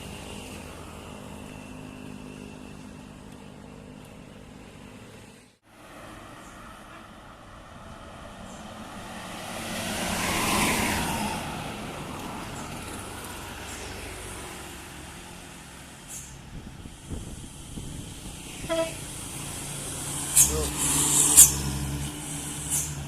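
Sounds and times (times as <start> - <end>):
large vehicle passing: 0.0 - 23.0
traffic rumble: 0.0 - 23.0.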